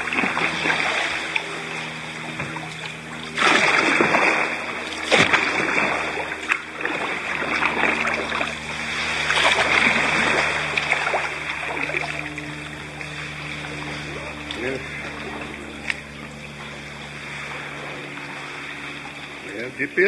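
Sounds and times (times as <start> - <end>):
paddle splashing and dripping water: 0.0 - 19.6.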